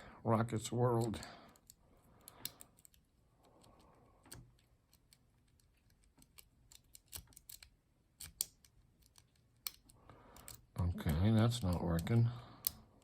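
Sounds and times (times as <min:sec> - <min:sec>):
metallic clicks of lock picking: 0:01.0 - 0:03.0, 0:03.6 - 0:10.7, 0:11.5 - 0:13.0.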